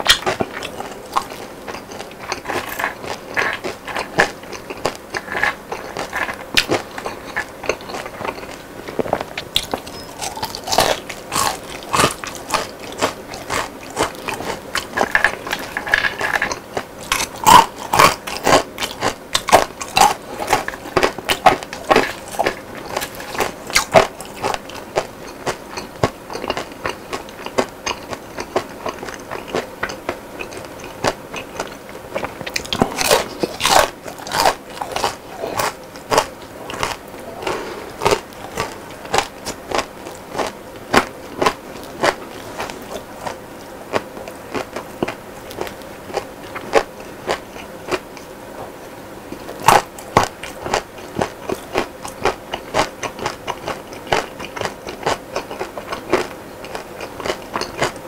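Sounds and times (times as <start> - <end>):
person chewing crispy food: 0.0 - 58.0.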